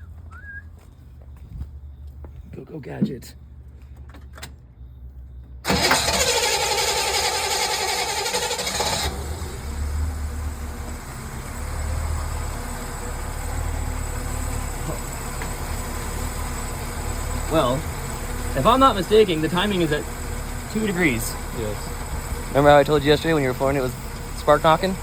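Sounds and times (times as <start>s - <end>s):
boat engine starting and idling: 2.7s - 25.0s.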